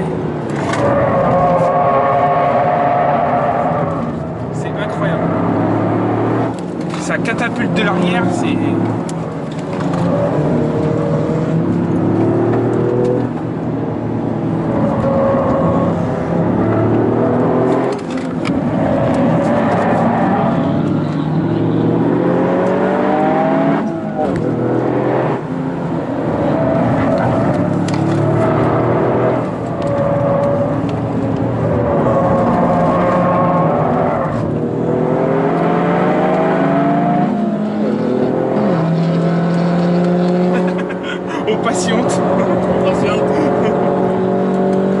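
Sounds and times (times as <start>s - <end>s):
car engine accelerating hard: 0.0s - 45.0s.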